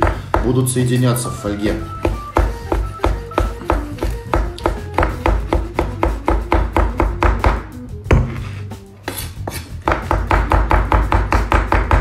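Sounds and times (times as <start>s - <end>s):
knife chopping on wooden board: 0.0s - 0.9s, 2.0s - 12.0s.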